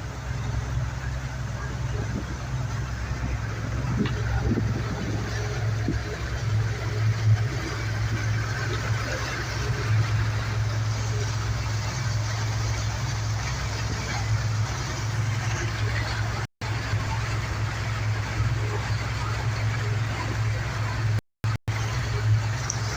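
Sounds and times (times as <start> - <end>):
engine droning: 0.0 - 22.9.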